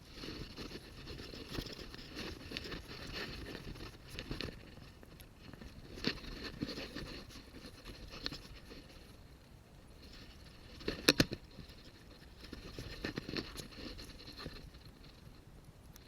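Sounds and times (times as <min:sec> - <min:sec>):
objects scraping and rustling: 0:00.0 - 0:15.4.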